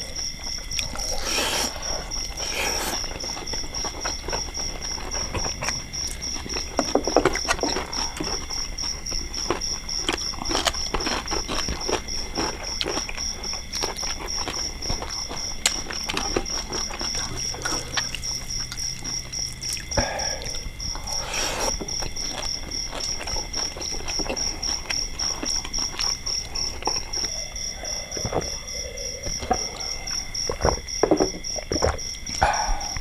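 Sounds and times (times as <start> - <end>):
close chewing: 0.0 - 33.0
insects or frogs calling: 0.0 - 33.0.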